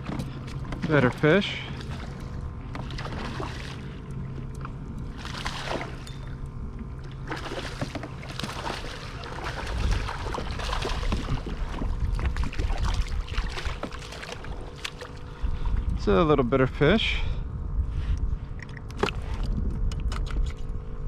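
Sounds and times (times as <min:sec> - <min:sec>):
water sloshing and splashing: 0:00.0 - 0:16.1, 0:18.3 - 0:21.0
low rumbling: 0:00.0 - 0:21.0.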